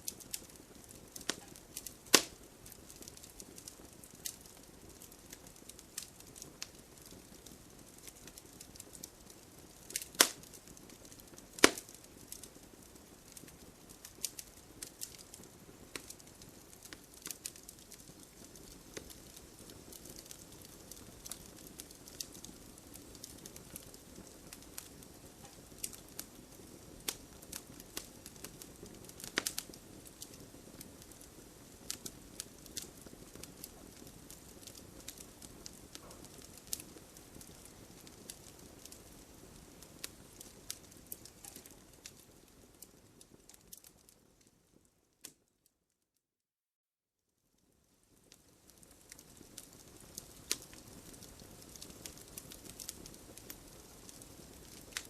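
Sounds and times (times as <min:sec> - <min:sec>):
campfire crackling and popping: 0:00.0 - 0:45.5, 0:47.6 - 0:55.0.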